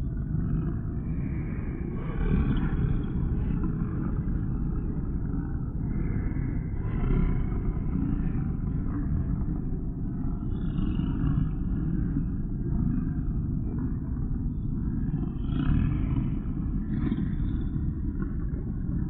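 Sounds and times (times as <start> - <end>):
deep steady rumble: 0.0 - 19.0.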